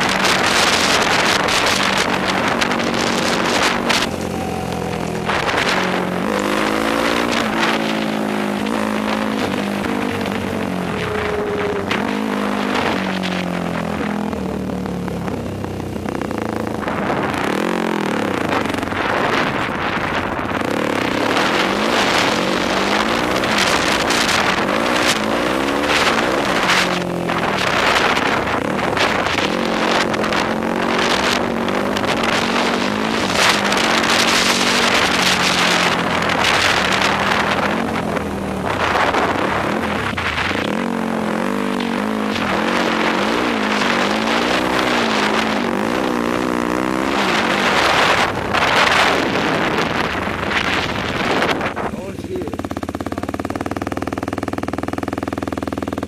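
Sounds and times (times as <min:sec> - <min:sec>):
wind buffeting microphone: 0:00.0 - 0:52.6
quad engine revving: 0:00.0 - 0:56.0.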